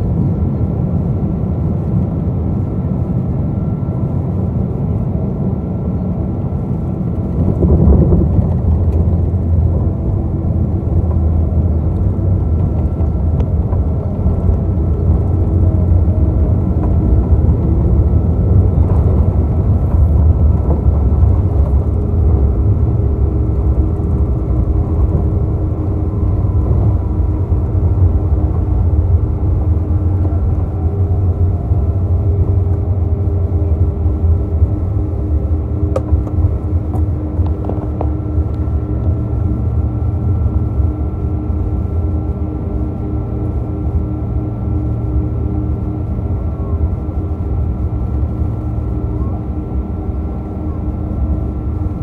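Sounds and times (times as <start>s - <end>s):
aircraft cabin engine rumble: 0.0s - 52.0s.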